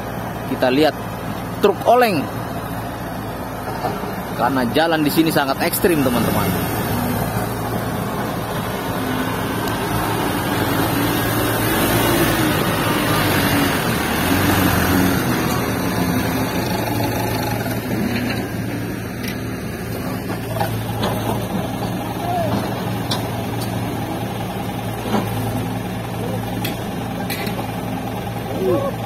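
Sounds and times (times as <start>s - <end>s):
diesel truck engine revving: 0.0s - 29.0s.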